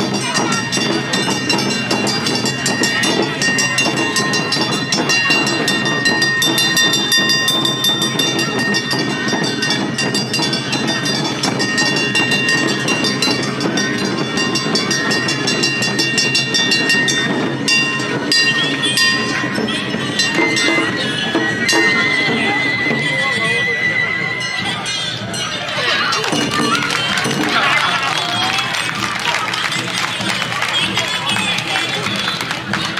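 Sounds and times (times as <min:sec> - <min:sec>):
ringing high held notes: 0:00.0 - 0:32.3
drums: 0:00.0 - 0:32.9.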